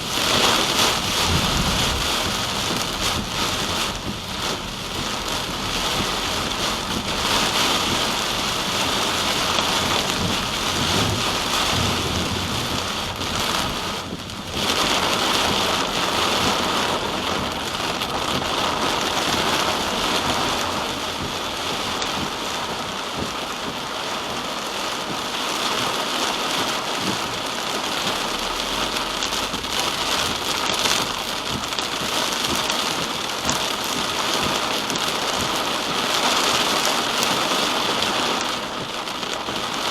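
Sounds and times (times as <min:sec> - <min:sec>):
rain on moving car: 0:00.0 - 0:39.9.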